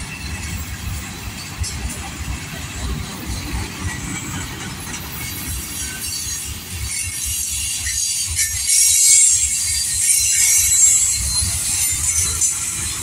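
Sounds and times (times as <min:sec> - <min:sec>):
high hiss from train wheels: 0:00.0 - 0:13.0
train wheels rumbling and clattering: 0:00.0 - 0:13.0.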